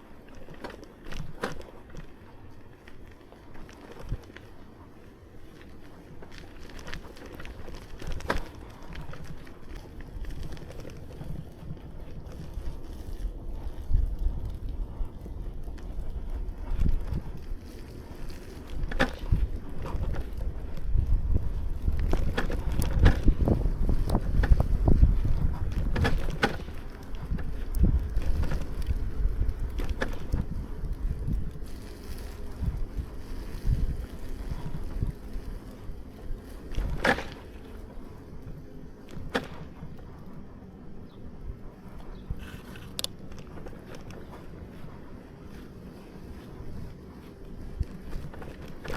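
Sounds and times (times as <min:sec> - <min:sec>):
bicycle clicks and knocks: 0:00.0 - 0:48.9
wind rumble on microphone: 0:00.0 - 0:48.9.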